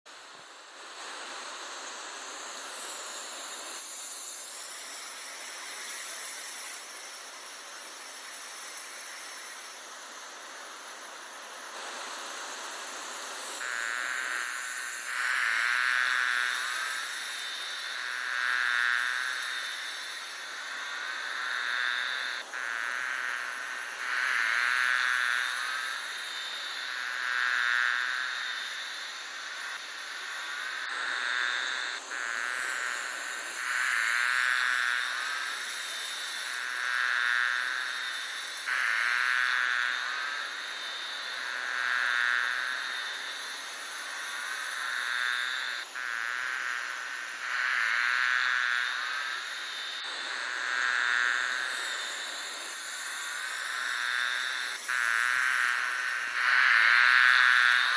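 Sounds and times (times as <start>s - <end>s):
steady hiss: 0.1s - 57.9s.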